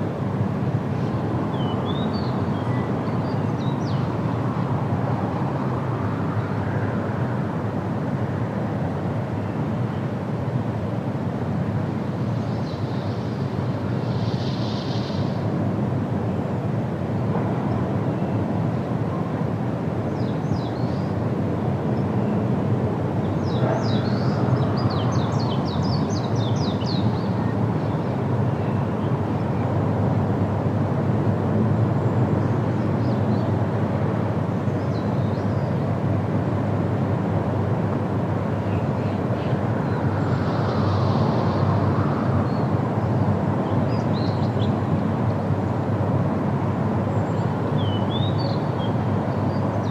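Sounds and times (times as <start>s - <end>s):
wind rushing through trees: 0.0s - 49.9s.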